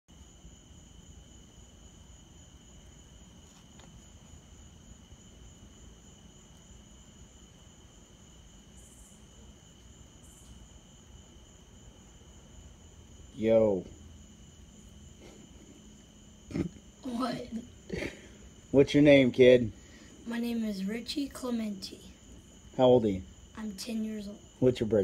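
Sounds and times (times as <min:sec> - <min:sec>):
crickets trilling: 0:00.1 - 0:25.0.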